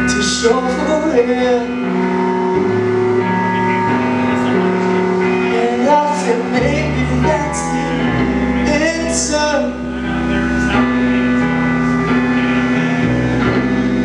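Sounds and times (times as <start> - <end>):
bass notes: 0.0 - 14.0
drums: 0.0 - 14.0
electric guitar: 0.0 - 14.0
person singing: 0.0 - 14.0.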